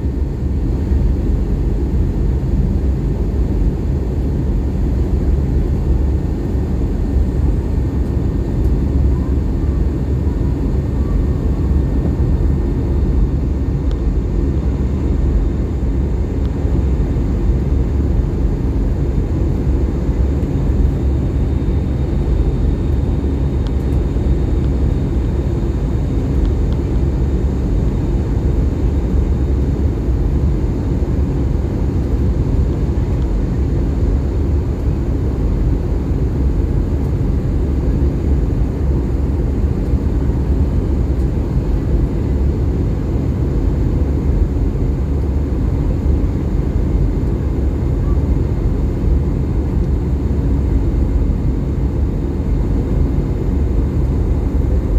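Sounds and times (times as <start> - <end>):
airliner cabin engine roar: 0.0 - 54.9.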